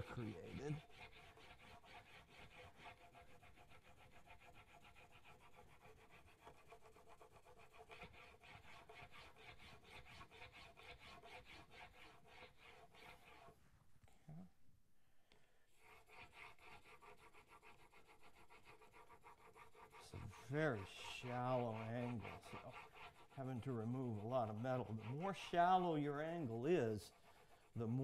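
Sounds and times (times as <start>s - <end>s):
chisel scraping on abrasive: 0.0s - 13.5s, 15.8s - 28.0s.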